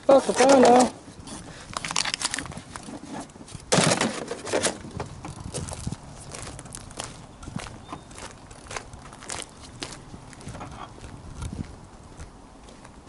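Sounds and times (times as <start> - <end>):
crinkling and rustling: 0.1 - 11.7.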